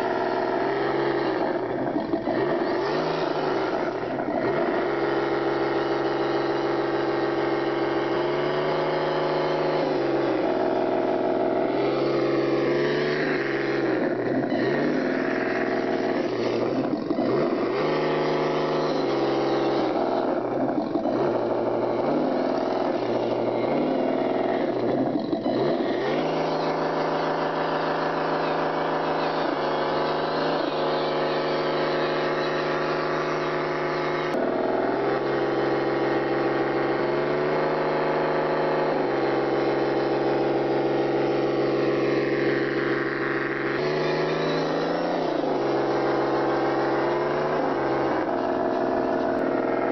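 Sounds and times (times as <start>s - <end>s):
vehicle engine revving: 0.0s - 49.9s.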